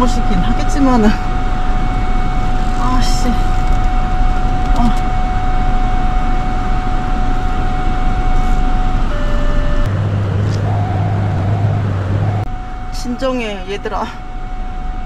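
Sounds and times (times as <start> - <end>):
car engine and road noise: 0.0 - 15.0
parking sensor warning tone: 0.0 - 15.0.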